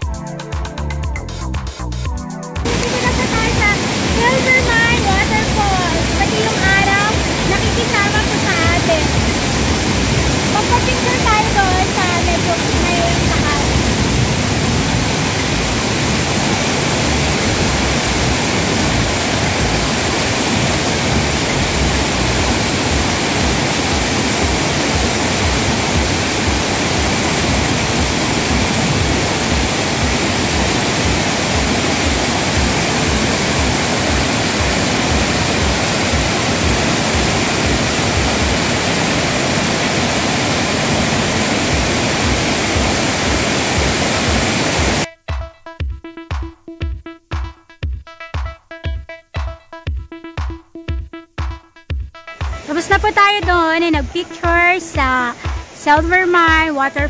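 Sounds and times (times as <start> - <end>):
electronic music with beat: 0.0 - 40.2, 41.7 - 57.0
waterfall rushing over rocks: 2.7 - 45.1, 52.4 - 57.0.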